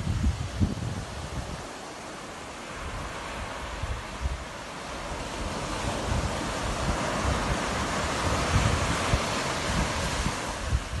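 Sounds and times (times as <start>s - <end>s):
sea surf breaking on beach: 0.0s - 11.0s
wind gusting on microphone: 0.0s - 11.0s.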